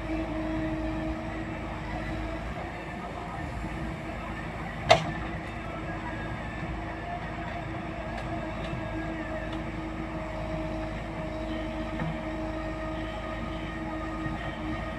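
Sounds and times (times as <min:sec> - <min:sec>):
diesel engine under load: 0:00.0 - 0:14.9
hydraulic whine: 0:00.0 - 0:14.9.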